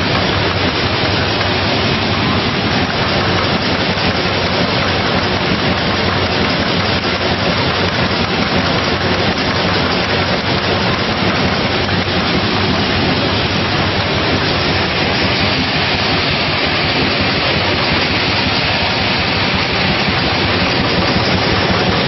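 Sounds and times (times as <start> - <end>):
bottling machine noise: 0.0 - 22.0.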